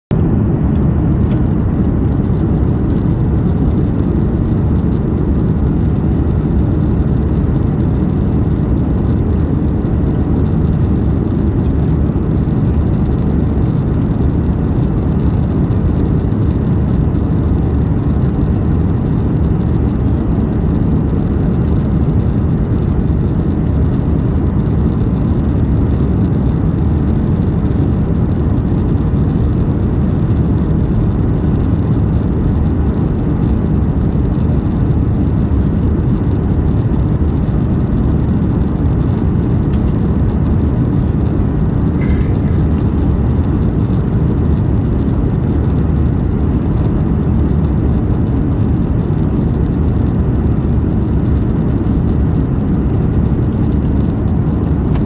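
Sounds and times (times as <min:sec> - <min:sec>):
airliner cabin engine rumble: 0:00.1 - 0:55.0.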